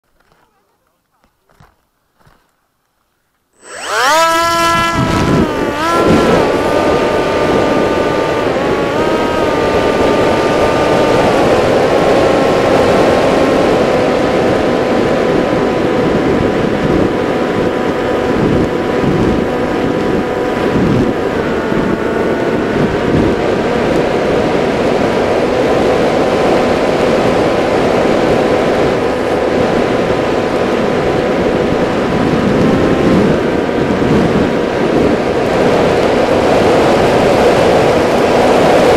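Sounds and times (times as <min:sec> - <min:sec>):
electric motor and propeller whine: 0:03.5 - 0:38.9
wind rushing over microphone: 0:03.6 - 0:38.9.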